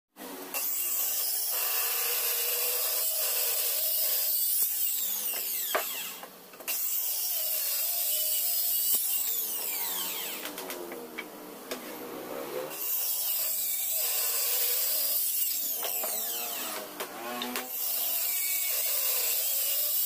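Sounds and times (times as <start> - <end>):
circular saw cutting wood: 0.2 - 20.0.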